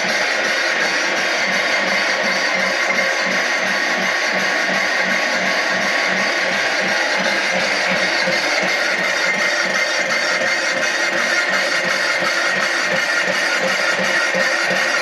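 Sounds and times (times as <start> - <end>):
milling machine whirring: 0.0 - 15.0.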